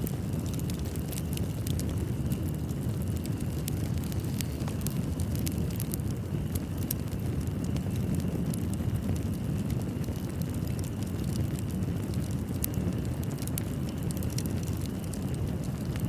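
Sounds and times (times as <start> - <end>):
fire crackling and popping: 0.0 - 16.0
fire roaring: 0.0 - 16.0.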